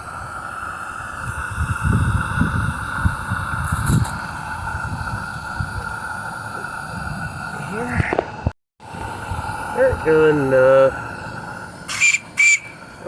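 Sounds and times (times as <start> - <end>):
steam locomotive hissing and puffing: 0.0 - 13.0.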